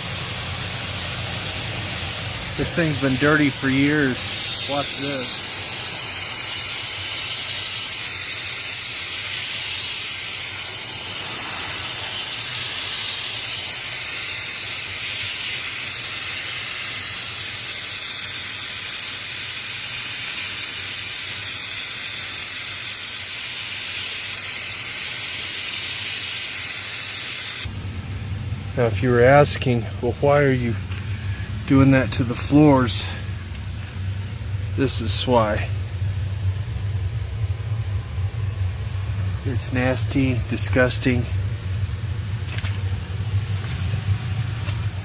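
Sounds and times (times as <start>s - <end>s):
pressure washer spraying water: 0.0s - 27.7s, 30.3s - 45.0s.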